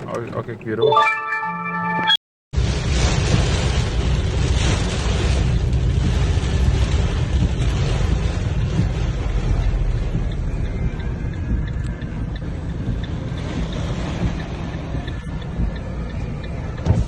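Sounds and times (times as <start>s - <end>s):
wind buffeting microphone: 3.0s - 17.0s.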